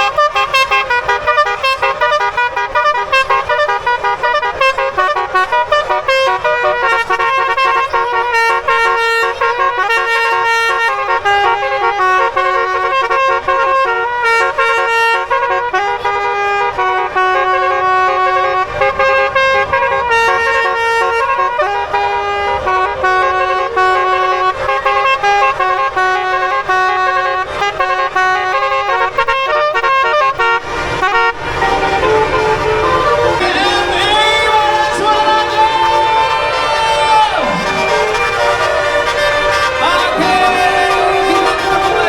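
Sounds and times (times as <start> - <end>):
bus musical horns playing melody: 0.0 - 42.0.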